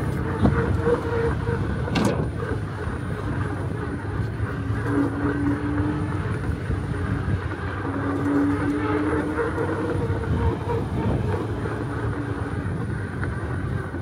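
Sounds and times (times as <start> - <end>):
wind and road noise rumble: 0.0 - 14.0.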